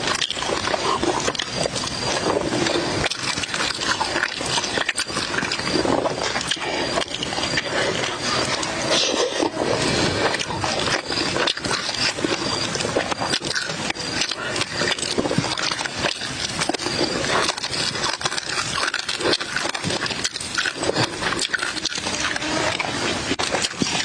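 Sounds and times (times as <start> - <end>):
person chewing: 0.0 - 24.0.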